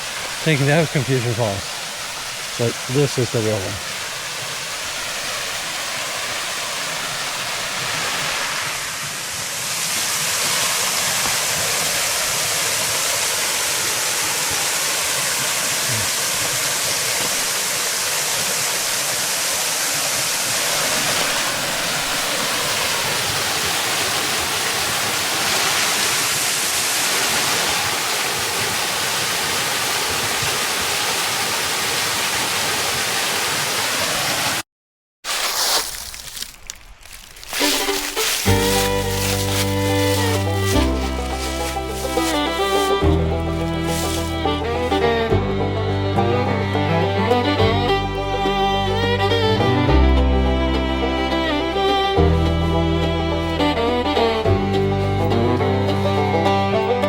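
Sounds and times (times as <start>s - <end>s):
waterfall rushing: 0.0s - 34.6s, 37.5s - 49.8s, 50.4s - 57.0s.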